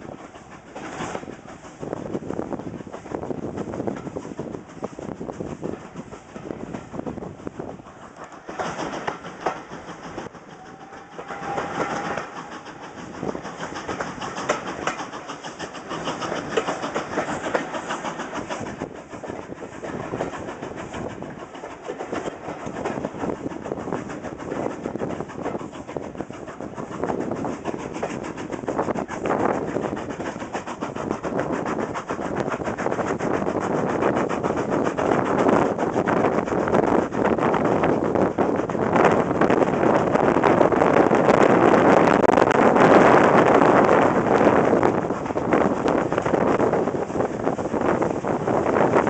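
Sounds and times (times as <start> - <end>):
train wheels clickety-clack: 0.0 - 49.0.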